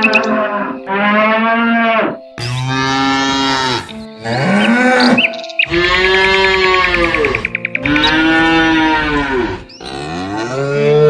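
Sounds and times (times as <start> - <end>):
cattle mooing: 0.0 - 11.0.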